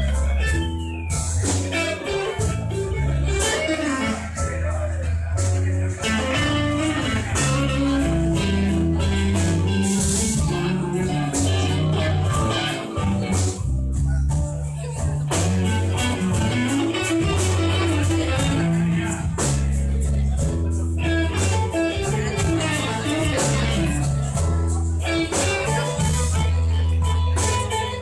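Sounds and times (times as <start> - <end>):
bass line: 0.0 - 28.0
blues band playing: 0.0 - 28.0
guitar lead lines: 0.0 - 28.0.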